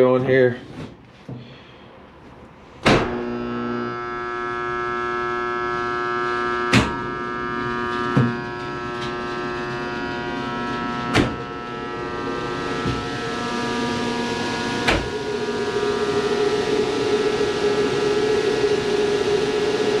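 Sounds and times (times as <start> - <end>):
machine humming: 2.1 - 20.0.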